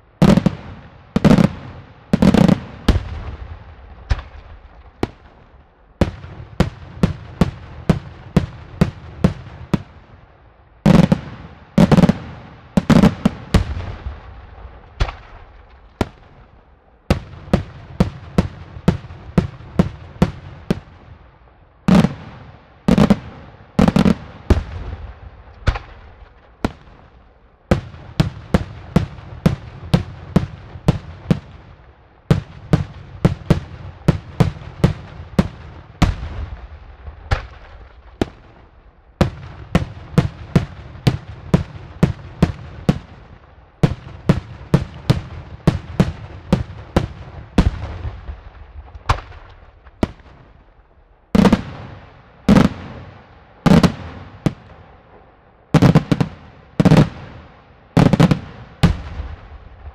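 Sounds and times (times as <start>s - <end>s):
fireworks bursting in loud bangs: 0.2s - 10.0s, 10.8s - 16.5s, 21.9s - 50.7s, 51.4s - 54.8s, 55.7s - 59.9s.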